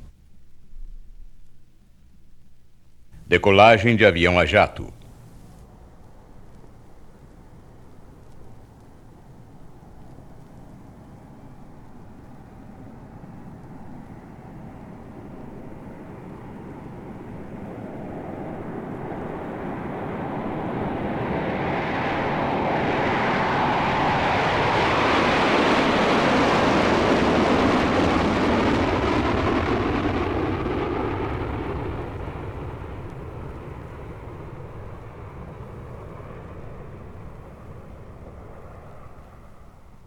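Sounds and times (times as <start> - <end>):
jet aeroplane taking off: 3.2 - 40.0.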